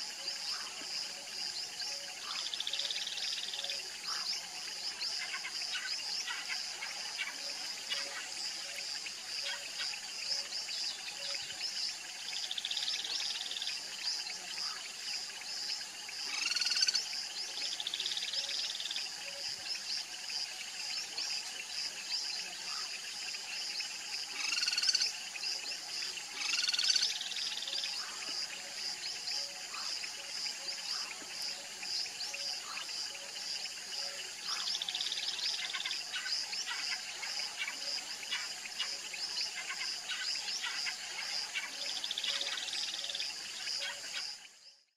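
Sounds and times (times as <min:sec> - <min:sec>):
buzzy insect trills: 0:00.0 - 0:44.9
high insect drone: 0:00.0 - 0:44.9.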